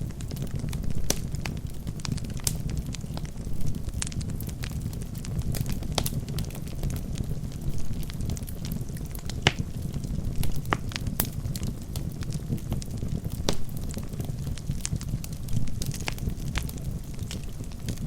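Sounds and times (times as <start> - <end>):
burning logs crackling and popping: 0.0 - 18.0
fire flames rumbling: 0.0 - 18.0.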